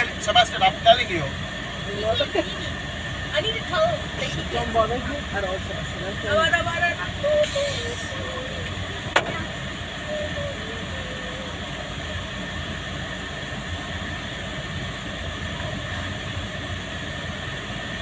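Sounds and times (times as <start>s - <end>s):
engine and road noise in cabin: 0.0s - 18.0s.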